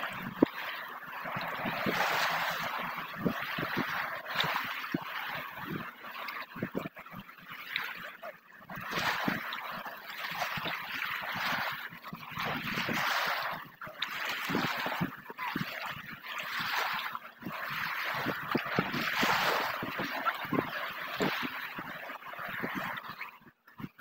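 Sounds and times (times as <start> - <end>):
sea water washing and sloshing: 0.0 - 24.0.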